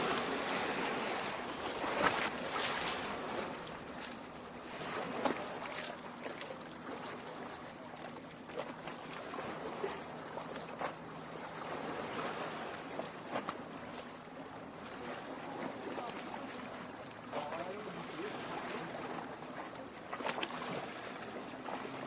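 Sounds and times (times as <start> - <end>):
waves lapping at shore: 0.0 - 22.0
light splashes and drips: 1.2 - 11.2, 12.2 - 22.0.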